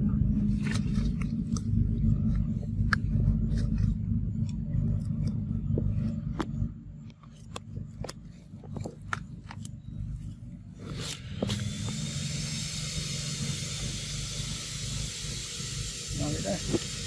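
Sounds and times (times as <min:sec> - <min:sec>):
low steady rumble: 0:00.0 - 0:17.0
monkey chewing fruit: 0:00.2 - 0:14.7.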